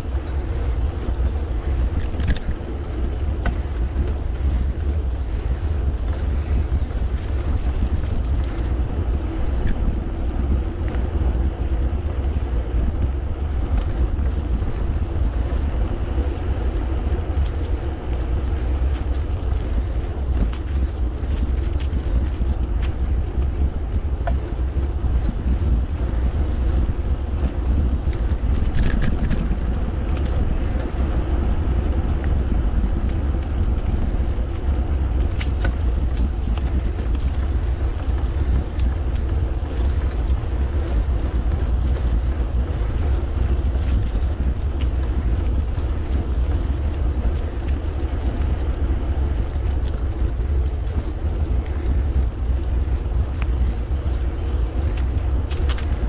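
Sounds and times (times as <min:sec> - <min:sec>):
bike tyres on pavement: 0:00.0 - 0:56.0
wind noise on microphone: 0:00.0 - 0:56.0.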